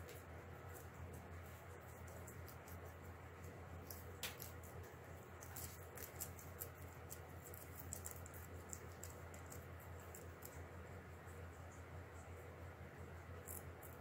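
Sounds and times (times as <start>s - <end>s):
guinea pigs crunching vegetables: 0.0s - 14.0s
low steady hum: 0.0s - 14.0s.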